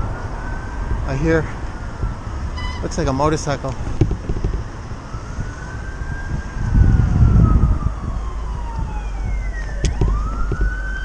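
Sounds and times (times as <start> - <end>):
emergency siren wailing: 0.0 - 3.8, 4.4 - 11.0
low vehicle rumble: 0.0 - 11.0.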